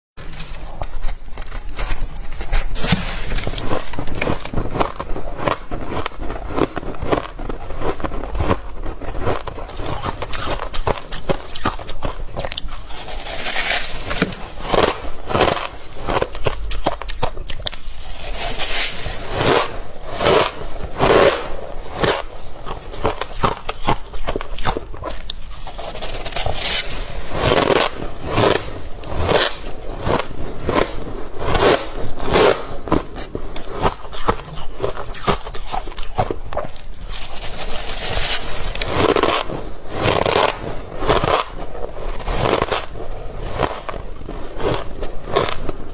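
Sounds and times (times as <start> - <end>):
freezer frost scraping and crunching: 0.2 - 45.9.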